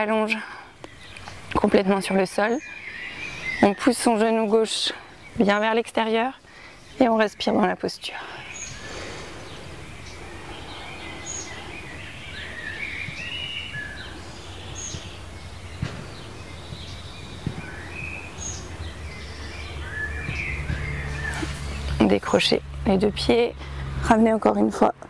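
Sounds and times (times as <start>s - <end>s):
garden birds chirping: 0.0s - 25.0s.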